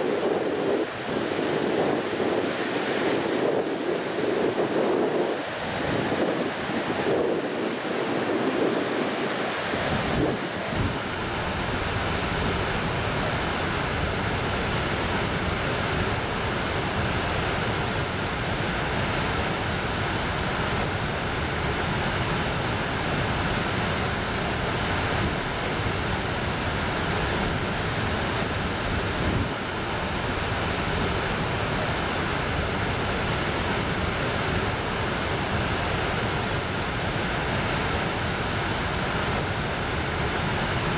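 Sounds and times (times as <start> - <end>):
rushing floodwater roar: 0.0 - 40.9.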